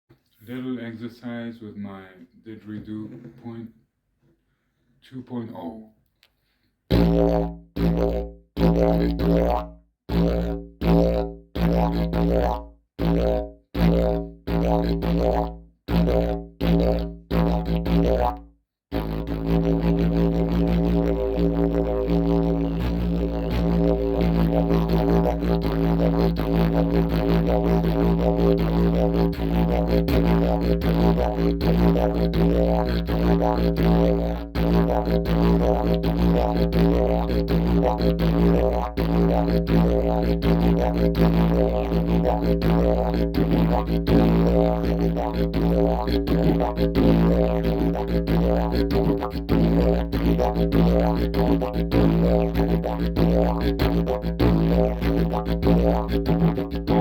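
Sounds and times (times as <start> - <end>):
didgeridoo droning: 6.9 - 57.0.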